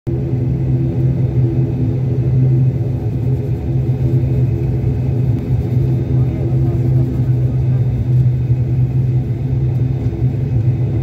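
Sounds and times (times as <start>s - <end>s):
airliner engines droning: 0.1s - 11.0s.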